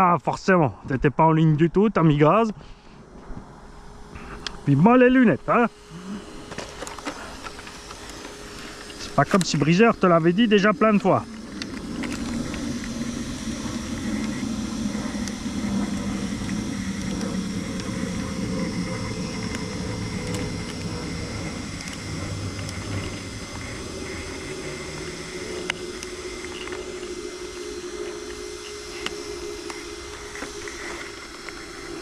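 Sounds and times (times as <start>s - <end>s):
rc cars motor whine and tyres: 2.3s - 32.0s.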